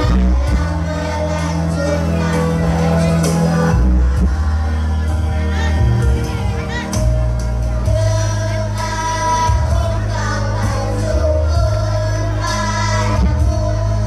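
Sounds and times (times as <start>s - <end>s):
accompaniment with steady bass line: 0.0s - 14.0s
children's choir singing: 0.0s - 14.0s.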